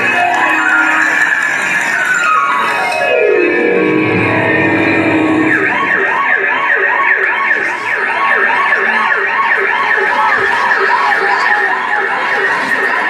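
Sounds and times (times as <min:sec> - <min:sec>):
siren sound effect: 0:00.0 - 0:13.0.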